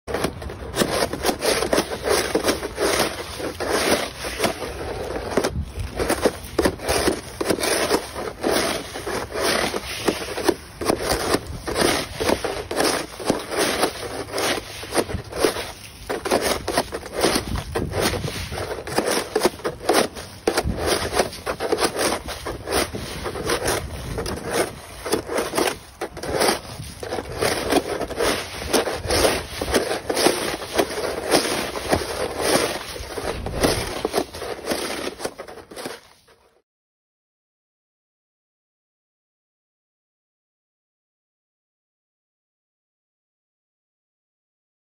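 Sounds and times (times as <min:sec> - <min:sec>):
snow brush scraping ice: 0:00.1 - 0:36.6.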